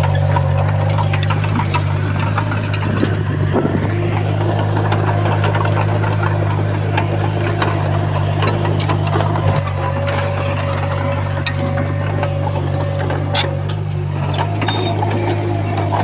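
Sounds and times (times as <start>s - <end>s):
diesel engine running steadily: 0.0s - 16.0s
short clicks and clanks: 0.0s - 16.0s.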